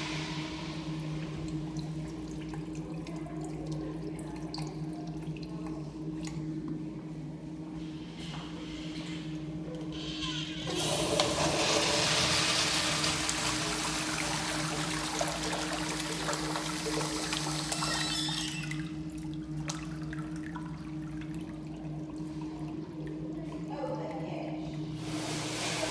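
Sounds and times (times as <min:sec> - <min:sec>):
urinal flushing: 0:00.0 - 0:06.5, 0:08.2 - 0:25.9.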